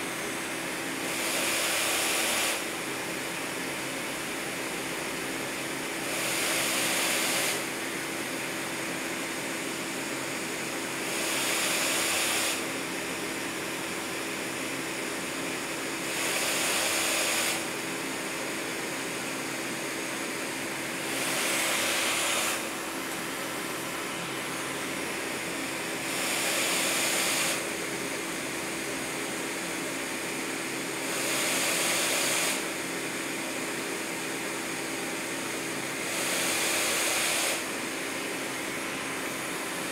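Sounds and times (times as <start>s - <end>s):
ventilator blower humming: 0.0s - 39.9s.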